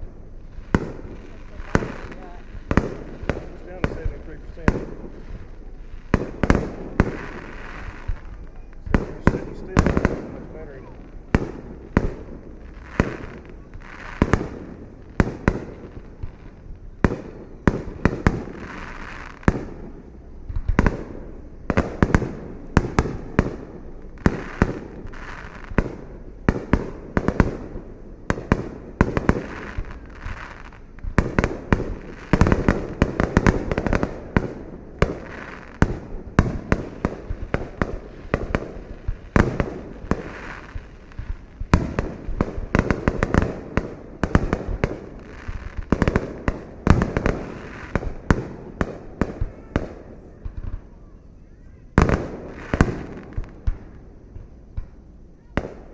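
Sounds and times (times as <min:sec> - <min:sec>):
fireworks crackling: 0:00.0 - 0:55.9.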